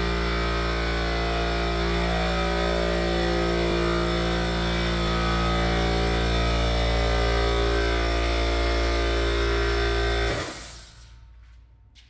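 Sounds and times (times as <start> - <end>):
air compressor motor droning: 0.0 - 11.4.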